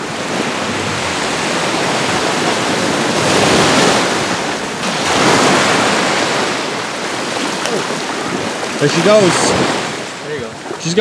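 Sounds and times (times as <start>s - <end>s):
shallow surf washing: 0.0s - 11.0s
whitewater rushing: 0.0s - 11.0s.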